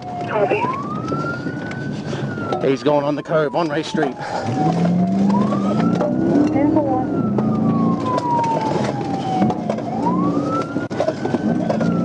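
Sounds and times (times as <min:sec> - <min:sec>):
police siren wailing: 0:00.0 - 0:12.0
vehicle noise: 0:00.0 - 0:12.0.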